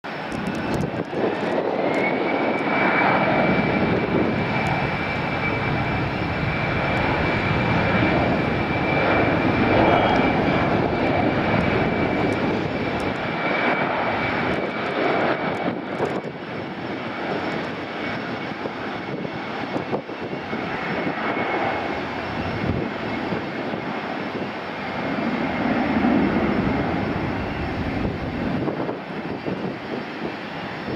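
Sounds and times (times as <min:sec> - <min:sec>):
jet engines at takeoff: 0:00.1 - 0:30.9.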